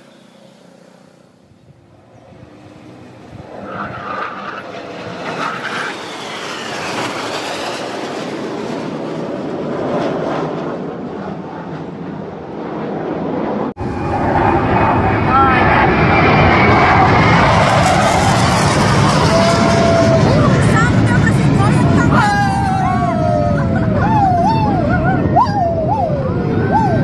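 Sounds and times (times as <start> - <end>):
fighter jets roaring past: 0.0 - 27.0
jet engine whines: 0.0 - 27.0.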